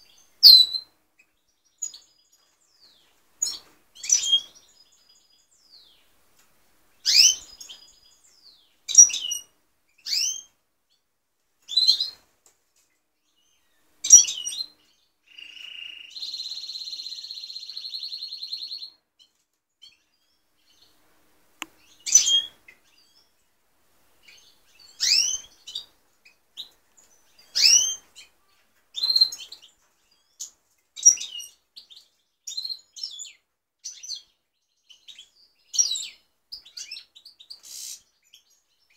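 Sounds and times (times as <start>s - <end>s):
finch chirps: 0.0s - 6.1s, 7.0s - 10.5s, 11.7s - 12.2s, 13.2s - 21.0s, 21.7s - 23.4s, 24.2s - 38.9s.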